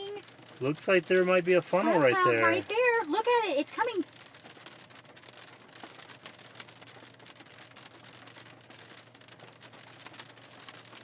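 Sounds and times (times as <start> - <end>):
rain ticking on a car: 0.0 - 11.0.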